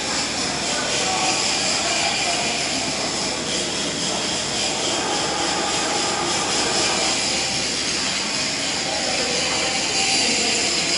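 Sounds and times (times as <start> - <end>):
welding hiss: 0.0 - 10.9.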